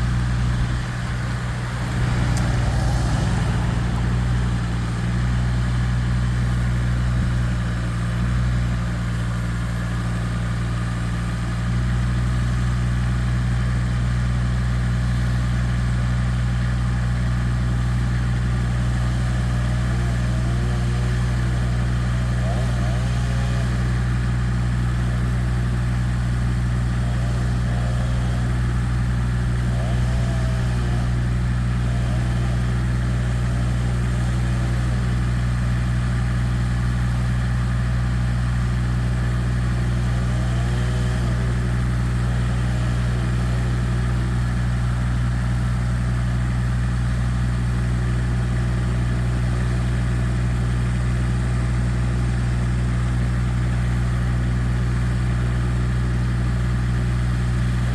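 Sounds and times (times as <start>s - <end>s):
large engine idling: 0.0s - 57.9s.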